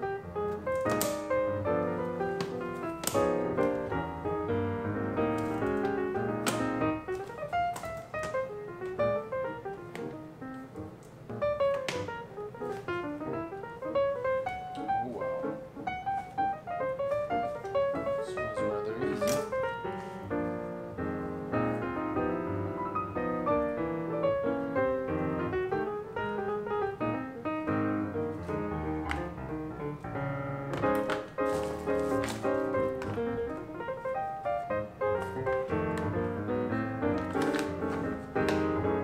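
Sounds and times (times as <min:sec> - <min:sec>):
instrumental piano music: 0:00.0 - 0:39.0.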